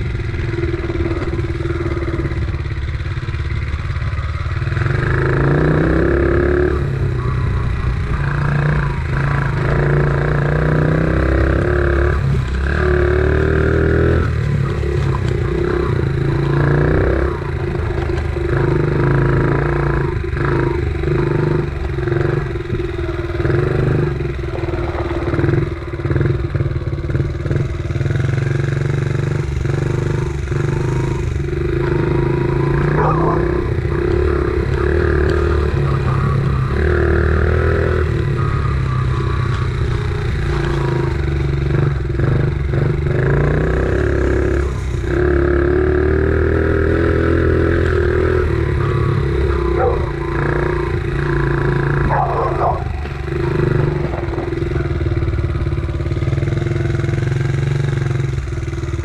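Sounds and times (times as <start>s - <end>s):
dirt bike engine revving: 0.0s - 59.0s
bike rattling over bumps: 7.7s - 59.0s.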